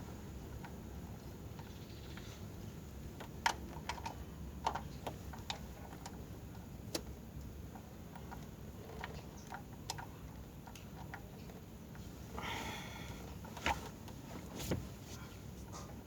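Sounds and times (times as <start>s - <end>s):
low steady background hum: 0.0s - 16.0s.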